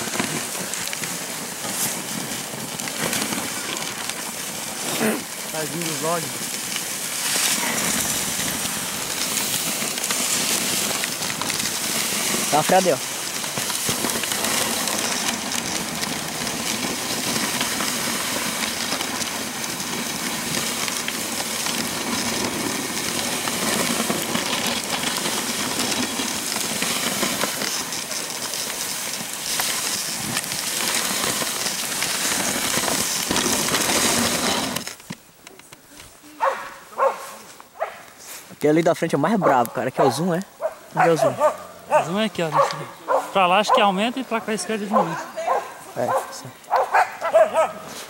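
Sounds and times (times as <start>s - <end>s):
sled runners hissing on snow: 0.0s - 35.0s, 36.0s - 48.0s.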